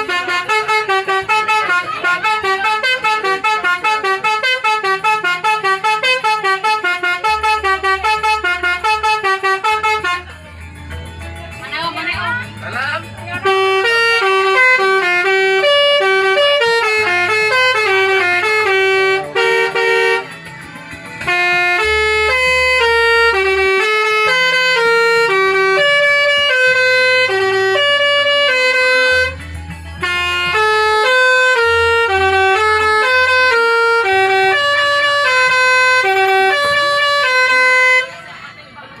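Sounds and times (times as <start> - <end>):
musical bus horn playing: 0.0 - 38.6.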